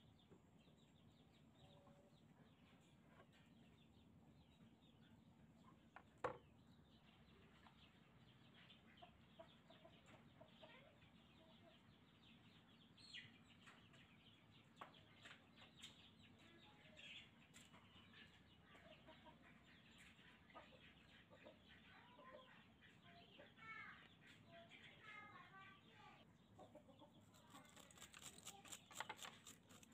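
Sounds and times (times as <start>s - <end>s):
chickens clucking: 0.1s - 25.0s, 26.3s - 29.9s.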